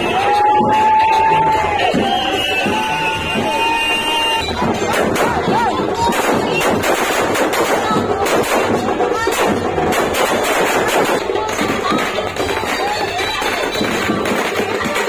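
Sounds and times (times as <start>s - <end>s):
firecrackers bursting: 0.0s - 15.0s
music playing: 0.0s - 15.0s.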